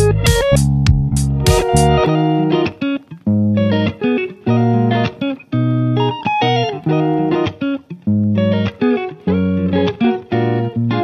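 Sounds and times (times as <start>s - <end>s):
guitar-led music with beat: 0.0s - 11.0s.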